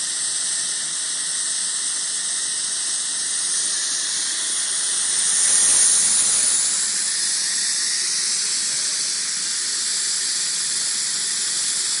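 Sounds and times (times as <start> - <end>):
steam safety valves hissing: 0.0 - 12.0.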